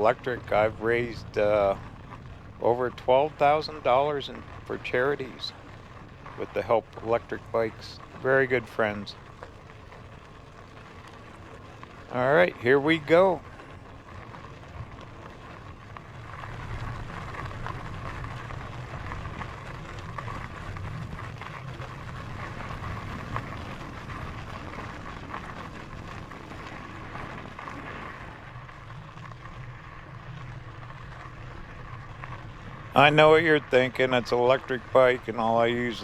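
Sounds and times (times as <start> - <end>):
bike tyres rolling on dirt: 0.0 - 36.0
small ticks: 3.4 - 12.2, 12.9 - 33.0.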